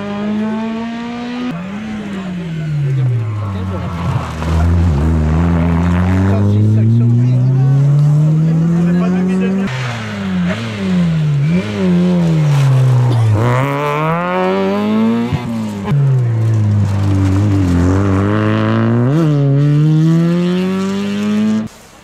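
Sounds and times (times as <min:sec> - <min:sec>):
rally car engine revving: 0:00.0 - 0:21.7.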